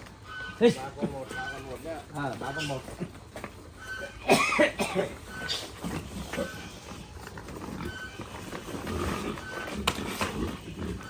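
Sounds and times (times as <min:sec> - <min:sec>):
pig squealing: 0:00.0 - 0:02.9, 0:03.7 - 0:11.0
pigs grunting: 0:00.0 - 0:11.0.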